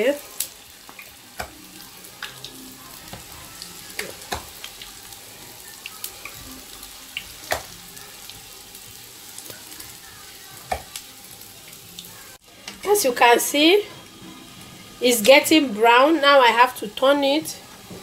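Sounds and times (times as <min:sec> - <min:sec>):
dough sizzling in hot oil: 0:00.0 - 0:18.0.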